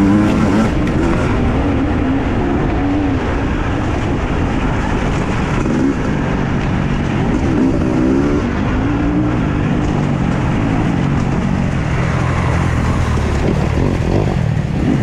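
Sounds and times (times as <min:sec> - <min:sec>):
motorcycle engine revving: 0:00.0 - 0:15.0
steady rush of noise: 0:00.0 - 0:15.0.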